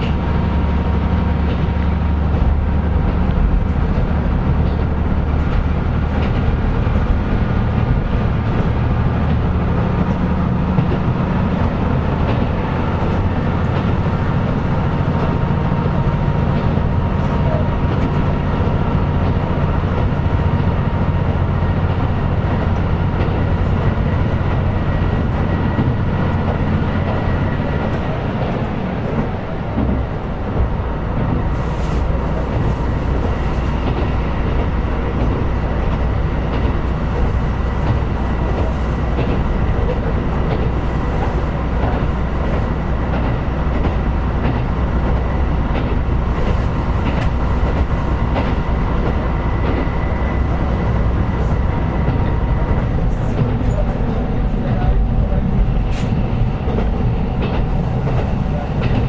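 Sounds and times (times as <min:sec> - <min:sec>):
diesel engine drone: 0:00.0 - 0:59.0
wheel and rail noise: 0:00.0 - 0:59.0.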